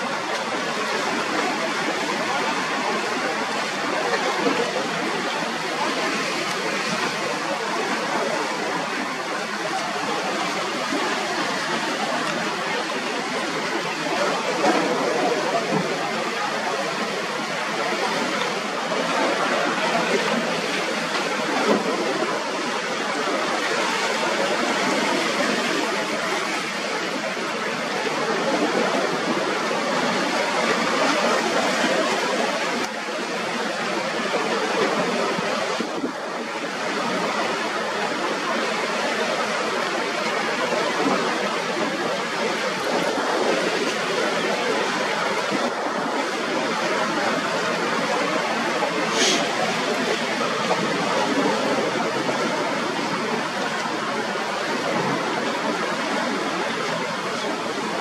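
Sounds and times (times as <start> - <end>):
surf and breaking waves: 0.0 - 58.0.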